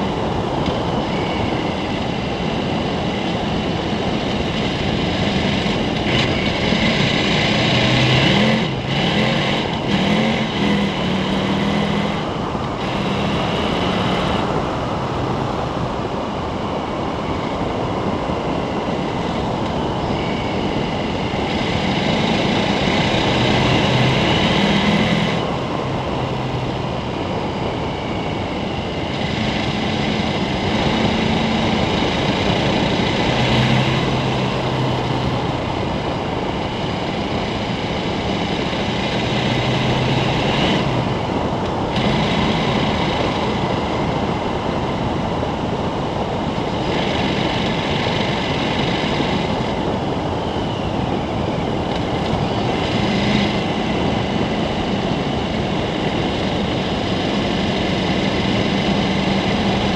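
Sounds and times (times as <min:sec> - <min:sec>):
motorcycle engine: 0:00.0 - 0:59.9
wind and tyres on gravel: 0:00.0 - 0:59.9.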